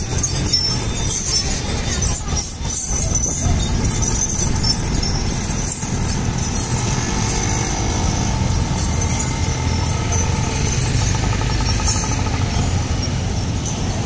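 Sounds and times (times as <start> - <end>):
metallic chains jingling: 0.0 - 14.0
motorcycle and scooter engines: 0.0 - 14.0.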